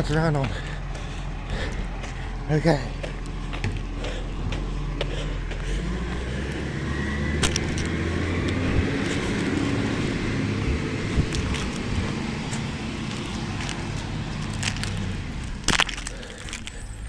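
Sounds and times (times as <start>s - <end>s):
garbage truck engine revving: 0.0s - 17.0s.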